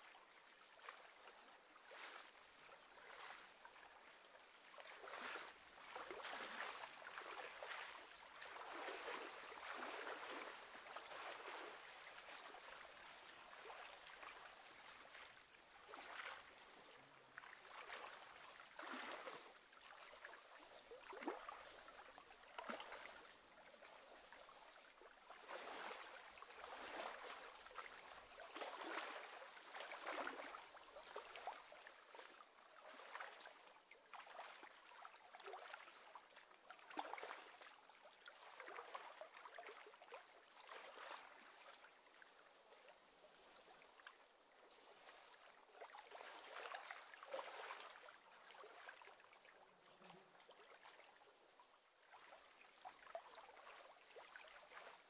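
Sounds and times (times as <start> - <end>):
small waves lapping on shore: 0.0 - 55.0.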